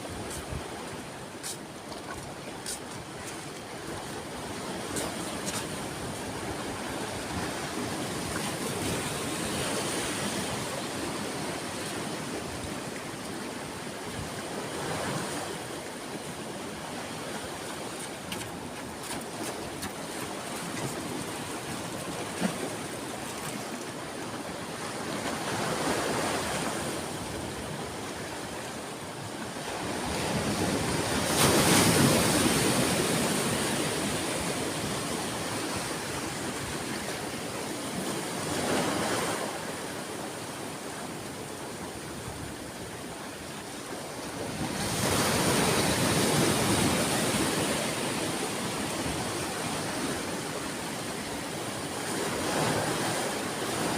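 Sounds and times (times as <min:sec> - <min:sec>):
waves breaking on beach: 0:00.0 - 0:53.9.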